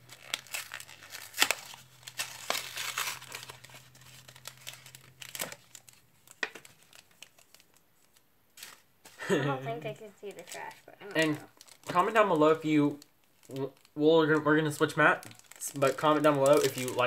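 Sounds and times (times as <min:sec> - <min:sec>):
foil wrapper crinkling and tearing: 0:00.0 - 0:09.3, 0:10.0 - 0:17.0.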